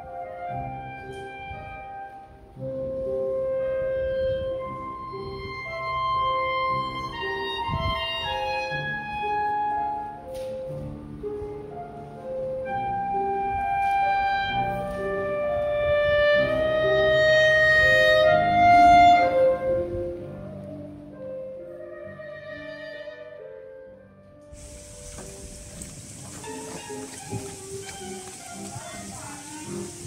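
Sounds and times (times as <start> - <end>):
slow melody of held notes: 0.0 - 30.0.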